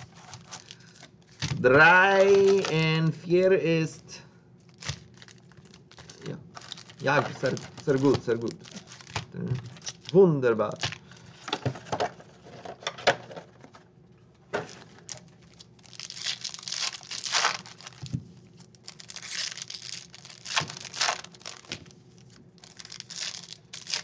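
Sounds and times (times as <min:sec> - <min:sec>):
foil packs crinkling and tearing: 0:00.0 - 0:03.1, 0:04.6 - 0:11.5, 0:14.6 - 0:24.0.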